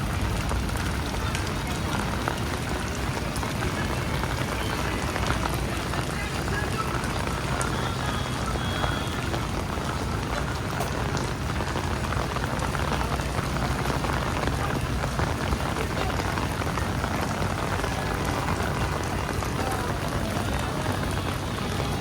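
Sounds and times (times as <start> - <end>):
rain pattering on street: 0.0 - 22.0.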